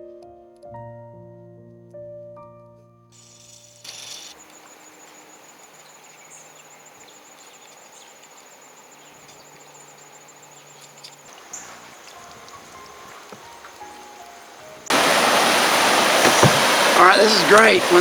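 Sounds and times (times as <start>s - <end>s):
insects trilling: 3.2s - 18.0s
soft outdoor hiss: 3.2s - 18.0s.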